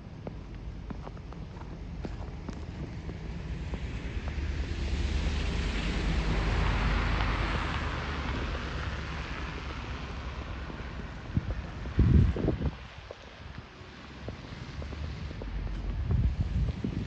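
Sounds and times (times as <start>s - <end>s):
vehicle passing on snowy street: 0.0s - 17.0s.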